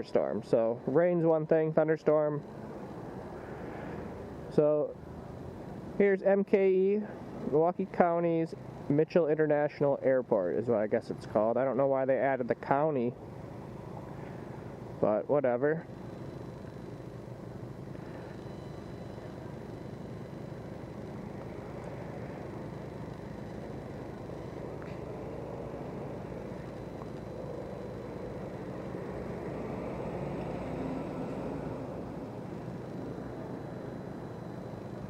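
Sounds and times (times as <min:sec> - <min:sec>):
road noise from moving vehicle: 0:00.0 - 0:35.0.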